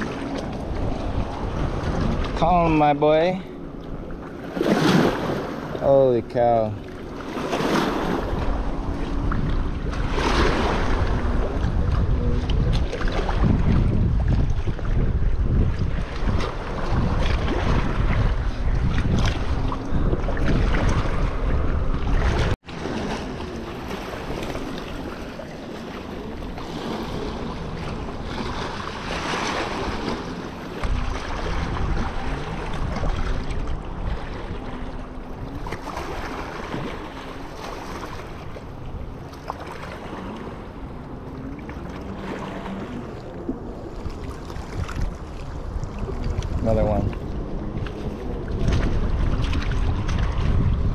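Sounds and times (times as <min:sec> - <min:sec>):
wind buffeting microphone: 0:00.0 - 0:50.9
small waves lapping on rocks: 0:04.3 - 0:08.5, 0:09.3 - 0:19.8, 0:22.2 - 0:50.9.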